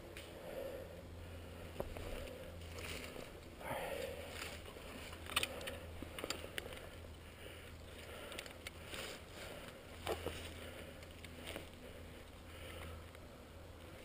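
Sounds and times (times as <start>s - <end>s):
low hum: 0.0s - 14.0s
rustling and crackling: 1.7s - 13.2s.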